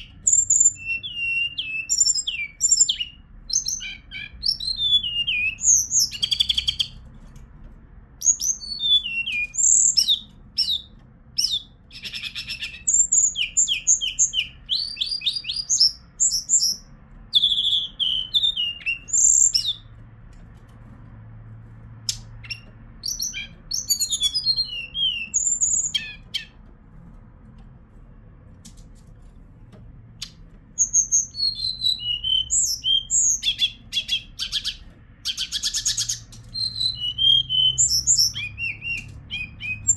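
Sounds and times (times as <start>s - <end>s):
bird singing high sweet notes: 0.0s - 7.0s, 8.2s - 19.9s, 22.1s - 26.6s, 30.2s - 39.9s.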